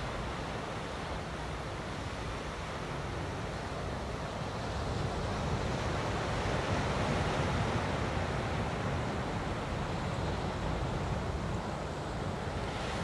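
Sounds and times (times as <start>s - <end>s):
small surf waves breaking: 0.0s - 13.0s.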